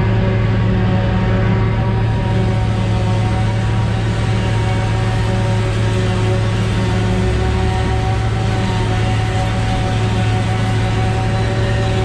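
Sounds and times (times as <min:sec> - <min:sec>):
heavy farm machinery running: 0:00.0 - 0:12.0.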